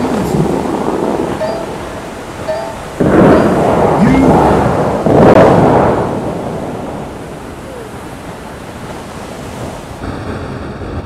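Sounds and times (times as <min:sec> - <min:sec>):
fountain water crashing down: 0:00.0 - 0:10.0.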